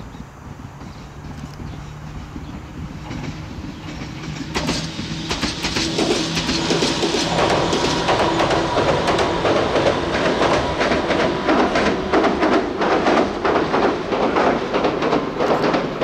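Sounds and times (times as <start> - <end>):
electric train approaching: 0.0 - 16.0
train wheels clacking over rail joints: 0.1 - 16.0.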